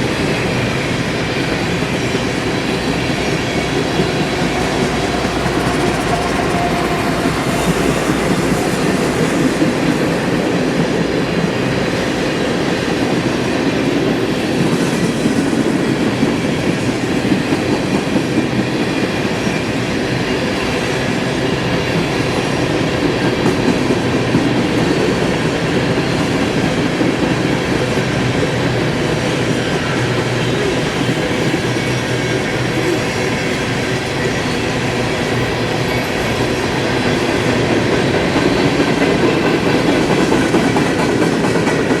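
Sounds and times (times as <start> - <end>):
train wheels clattering on rails: 0.0 - 42.0.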